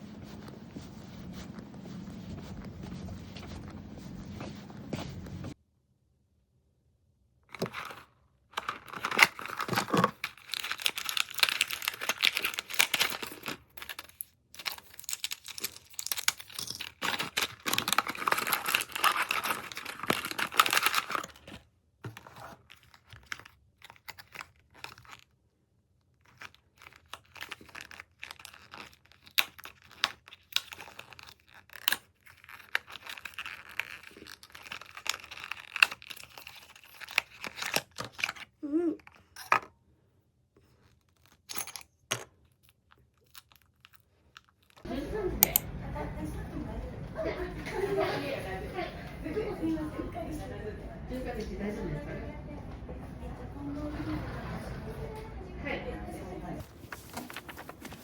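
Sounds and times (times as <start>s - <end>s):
crinkling and rustling handling noise: 0.0s - 5.6s, 7.5s - 45.8s, 47.1s - 58.0s.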